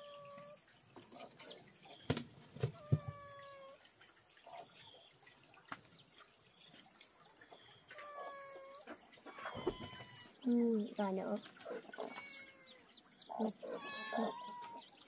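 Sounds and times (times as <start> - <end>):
chickens calling: 0.0 - 3.8, 5.8 - 15.0.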